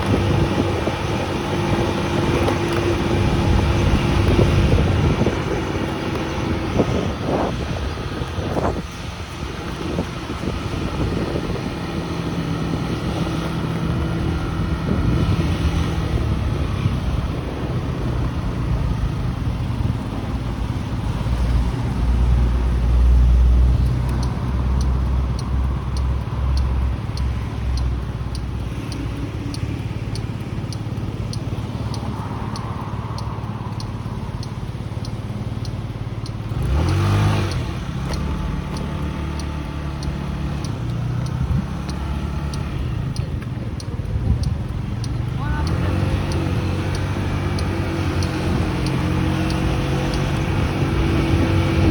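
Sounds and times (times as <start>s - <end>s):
passing vehicle: 0.0s - 51.9s
road and wind noise: 0.0s - 51.9s.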